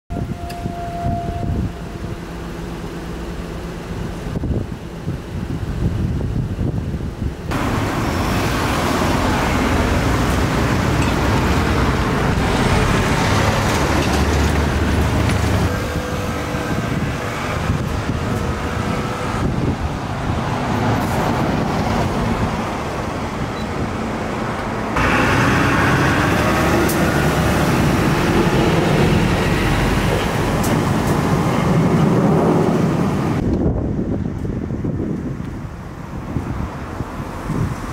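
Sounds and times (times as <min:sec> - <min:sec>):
road traffic passing: 0:00.1 - 0:37.9.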